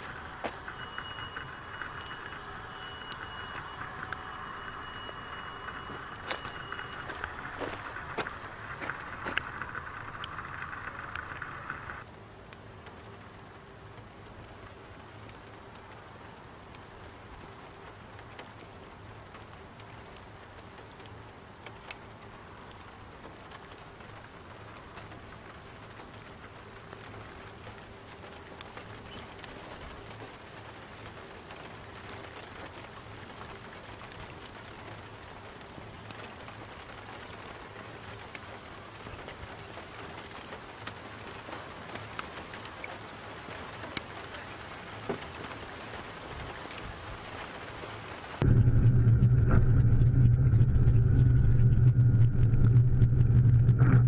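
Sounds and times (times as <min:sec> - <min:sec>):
rain falling: 0:00.0 - 0:48.5
raindrops ticking on surface: 0:00.0 - 0:48.5.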